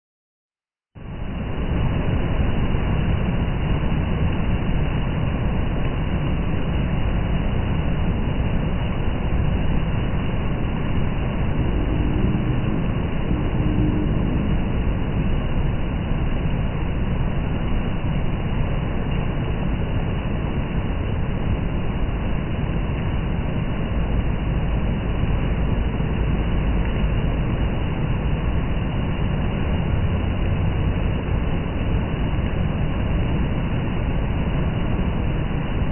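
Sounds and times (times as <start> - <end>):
heavy rain: 1.0 - 35.9.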